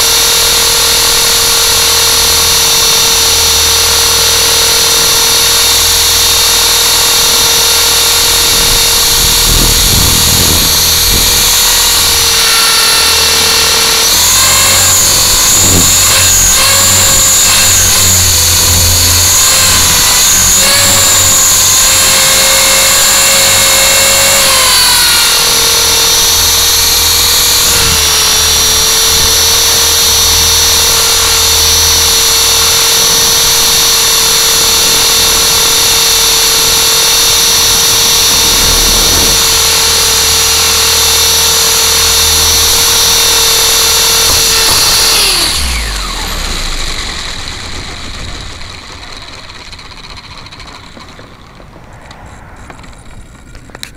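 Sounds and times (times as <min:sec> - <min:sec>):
drone rotors whining: 0:00.0 - 0:53.9.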